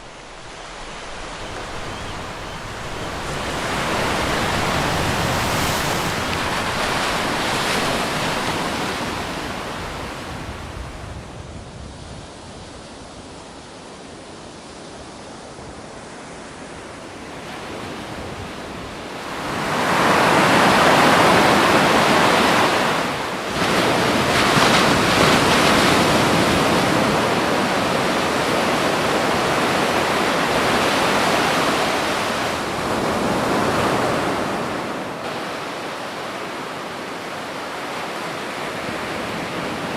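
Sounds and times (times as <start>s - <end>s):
ocean waves breaking: 0.0s - 11.0s, 17.5s - 39.9s.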